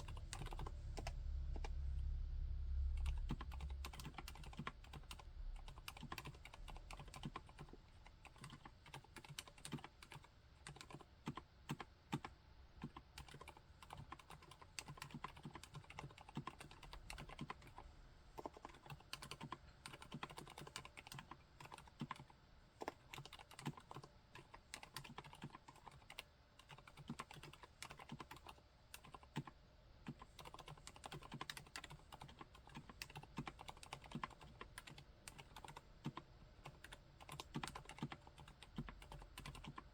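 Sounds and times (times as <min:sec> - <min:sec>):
mechanical keyboard typing: 0:00.0 - 0:01.8, 0:02.9 - 0:39.9.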